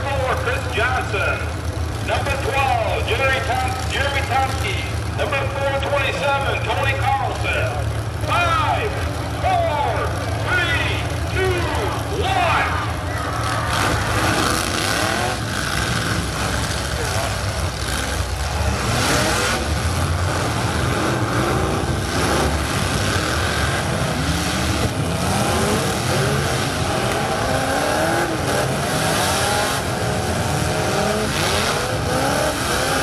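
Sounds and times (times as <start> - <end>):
trucks crunching into each other: 0.0 - 30.1
truck engines revving: 0.0 - 33.0.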